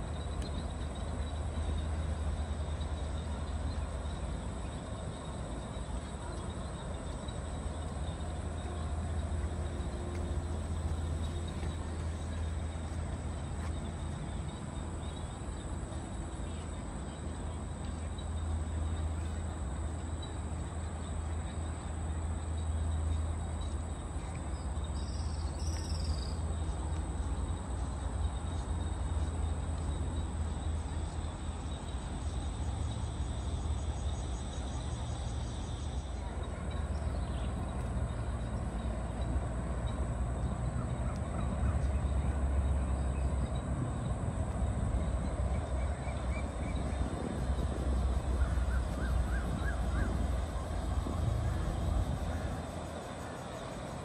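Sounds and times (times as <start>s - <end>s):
distant traffic rumble: 0.0s - 54.0s
high insect drone: 0.0s - 54.0s.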